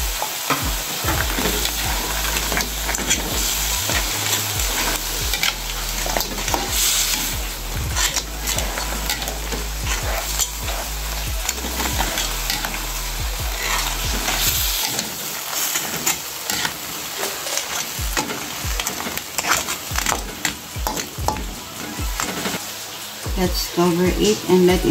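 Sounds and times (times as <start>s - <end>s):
food sizzling in a wok: 0.0s - 24.9s
spatula scraping pan: 0.4s - 22.6s.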